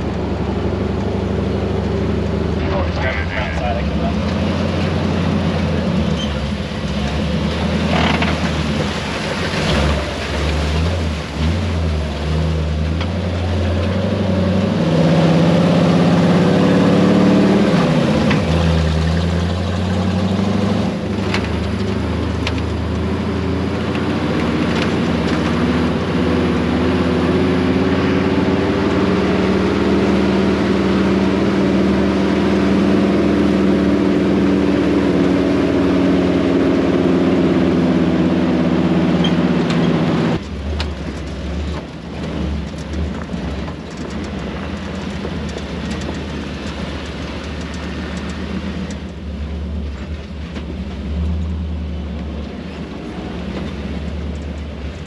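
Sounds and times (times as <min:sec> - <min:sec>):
pickup truck engine: 0:00.0 - 0:55.0.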